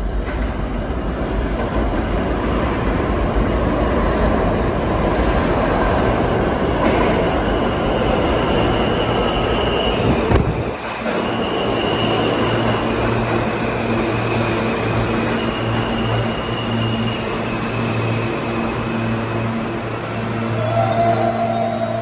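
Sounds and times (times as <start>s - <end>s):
subway train braking: 0.0s - 22.0s
standing train humming: 1.6s - 22.0s.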